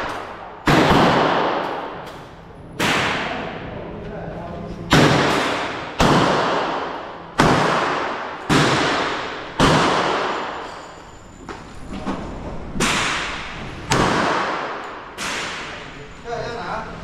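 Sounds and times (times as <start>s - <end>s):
gunshots echoing indoors: 0.0s - 4.0s, 4.8s - 11.2s, 12.7s - 16.2s.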